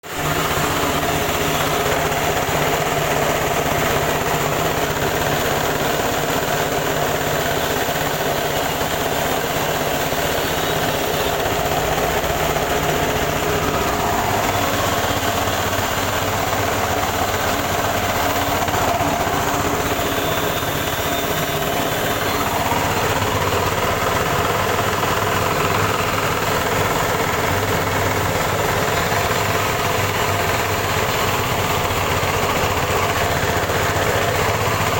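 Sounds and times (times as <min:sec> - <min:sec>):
rice huller machine droning: 0:00.0 - 0:34.9.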